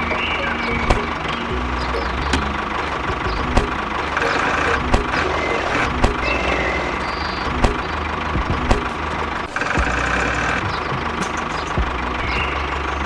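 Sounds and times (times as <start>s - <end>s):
small machine running: 0.0s - 13.0s.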